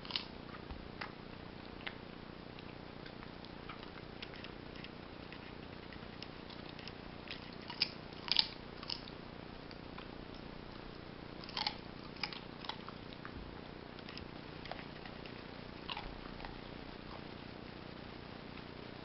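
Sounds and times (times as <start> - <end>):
puppy crunching carrot: 0.0 - 10.5, 11.4 - 17.3.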